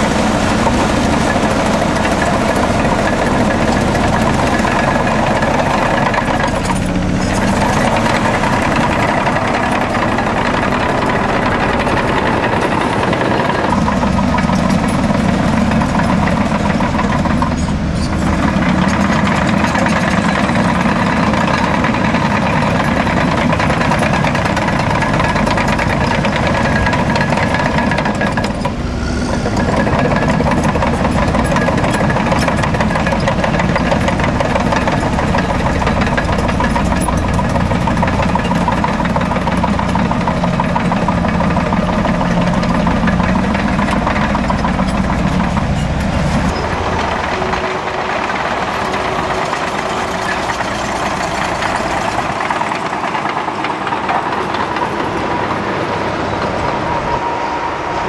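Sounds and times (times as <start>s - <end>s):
bulldozer diesel engine rattling: 0.0s - 58.0s.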